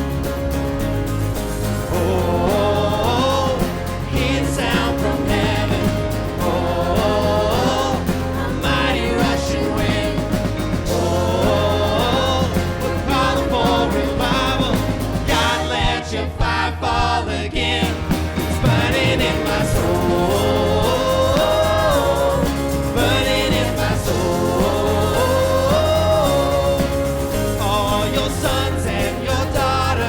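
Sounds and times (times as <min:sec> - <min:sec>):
worship band playing: 0:00.0 - 0:30.0
person singing: 0:01.8 - 0:30.0.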